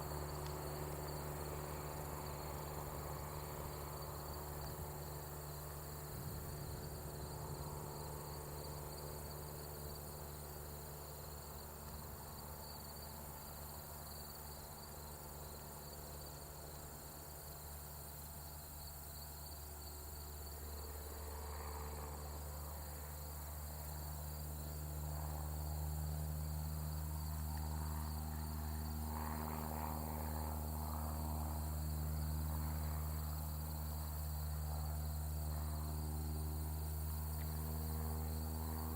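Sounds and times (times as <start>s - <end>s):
crickets chirping: 0.0s - 38.9s
light aircraft engine drone: 0.0s - 38.9s.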